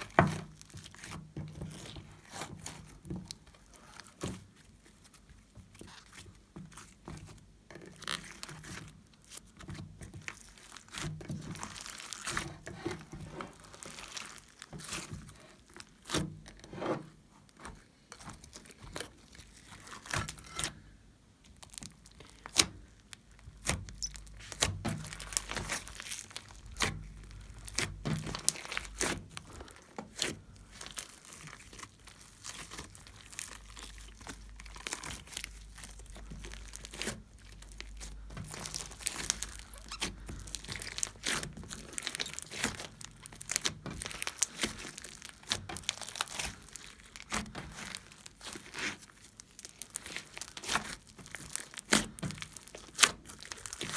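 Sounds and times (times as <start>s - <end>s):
slime squished by hand: 0.0s - 16.5s, 17.4s - 20.8s, 21.4s - 53.9s.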